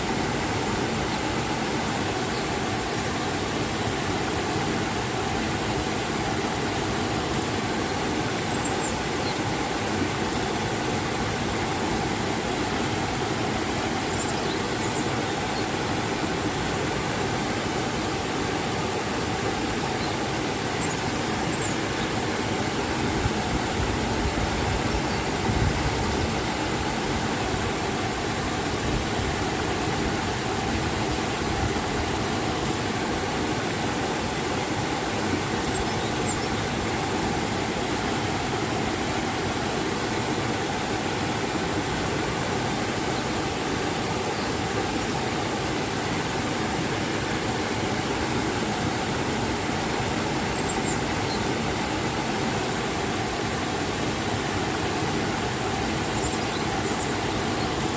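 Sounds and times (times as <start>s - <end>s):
river and waterfall rushing: 0.0s - 57.9s.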